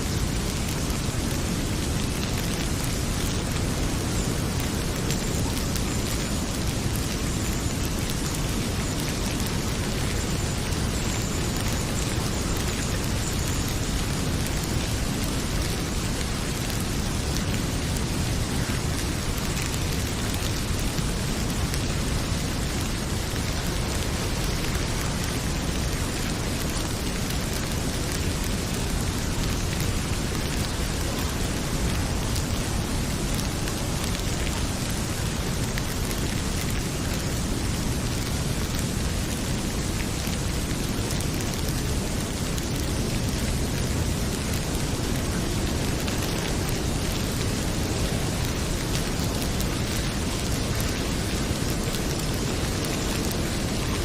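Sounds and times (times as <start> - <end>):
heavy rain pouring: 0.0 - 54.0
wood fire crackling: 0.0 - 54.0.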